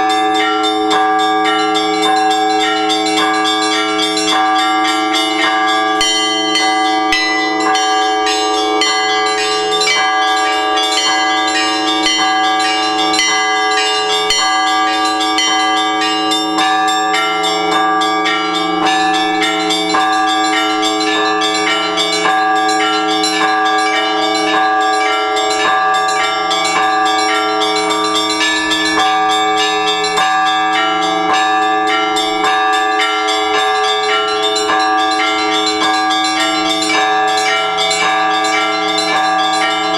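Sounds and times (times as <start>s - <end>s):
larger bells ringing: 0.0s - 39.9s
small bells struck rapidly: 0.0s - 39.9s.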